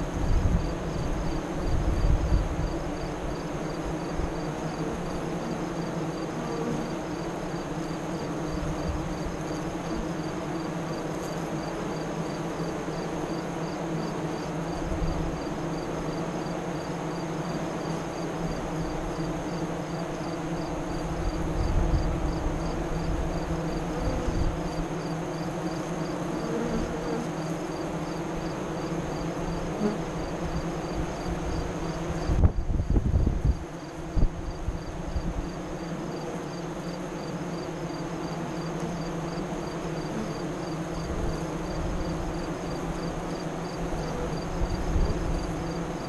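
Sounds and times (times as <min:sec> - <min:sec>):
honey bees buzzing: 0:00.0 - 0:46.0.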